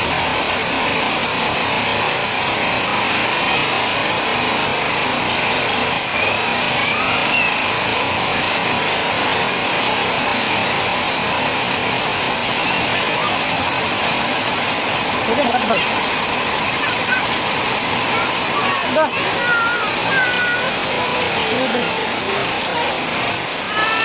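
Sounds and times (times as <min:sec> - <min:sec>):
heavy rain on a metal roof: 0:00.0 - 0:24.0
water pouring off roof edges: 0:00.0 - 0:24.0.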